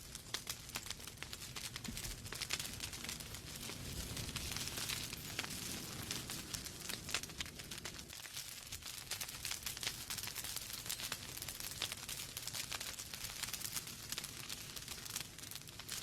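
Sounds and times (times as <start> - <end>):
fire low rumble: 0.0 - 16.0
logs crackling and popping: 0.0 - 16.0.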